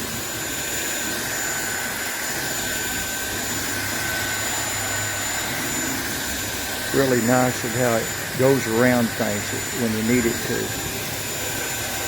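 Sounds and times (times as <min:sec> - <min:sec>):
stick vacuum cleaner running: 0:00.0 - 0:12.0.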